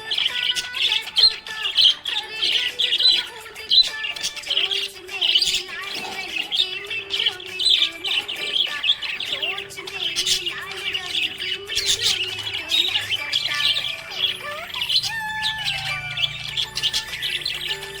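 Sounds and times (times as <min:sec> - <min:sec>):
budgerigar chattering: 0:00.0 - 0:18.0.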